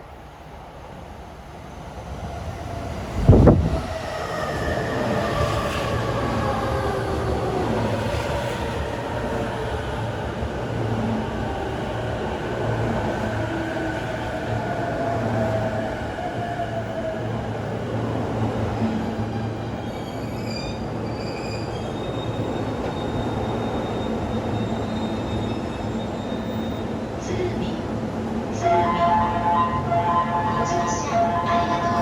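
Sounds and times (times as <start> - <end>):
electric train running on rails: 0.0 - 32.0.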